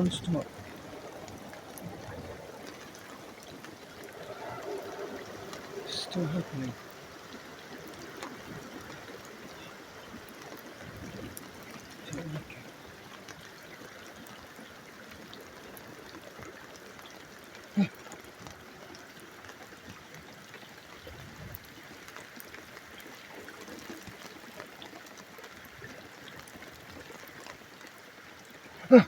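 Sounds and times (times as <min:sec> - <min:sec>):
steady rain: 0:00.0 - 0:29.0
water trickling and dripping: 0:00.0 - 0:29.0.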